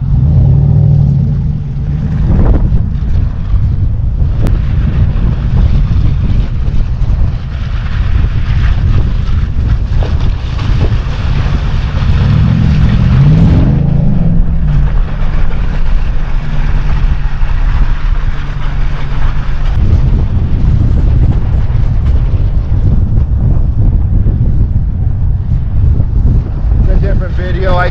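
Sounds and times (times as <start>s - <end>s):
truck engine revving: 0.0s - 27.0s
wind buffeting microphone: 0.0s - 27.9s.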